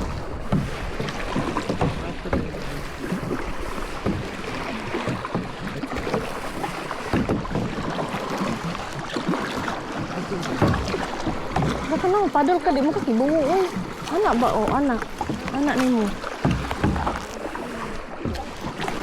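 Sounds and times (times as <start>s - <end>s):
kayak paddles splashing in water: 0.0s - 19.0s.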